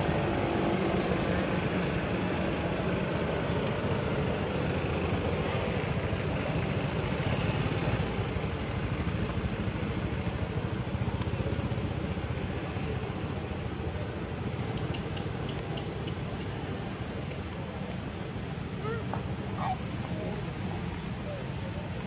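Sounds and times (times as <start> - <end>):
continuous high-pitched buzz: 0.0 - 22.0.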